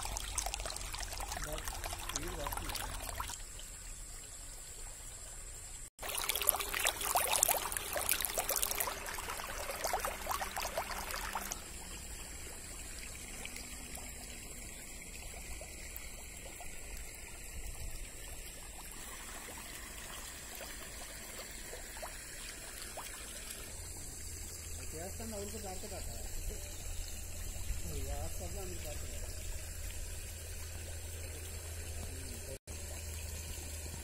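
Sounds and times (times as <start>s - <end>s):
stream trickling over stones: 0.0s - 34.0s.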